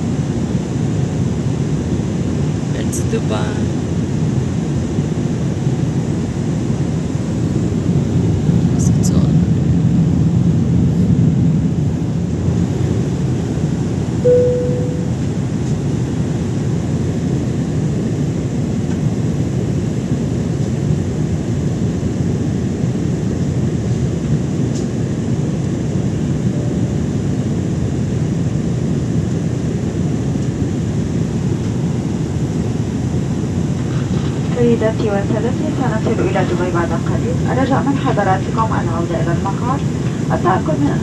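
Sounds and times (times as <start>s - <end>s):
jet engines and airflow rush: 0.0s - 41.0s.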